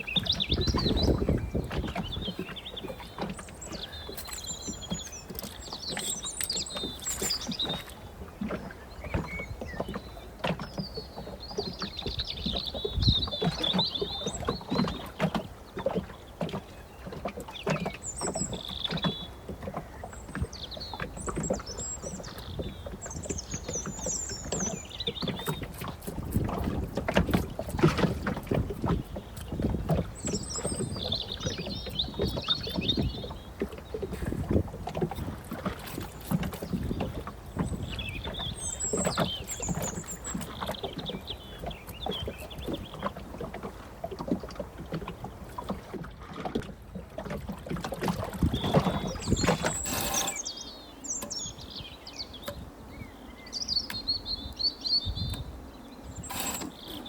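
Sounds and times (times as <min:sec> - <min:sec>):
birds chirping: 0:00.0 - 0:57.0
water lapping against boat hull: 0:00.0 - 0:57.0.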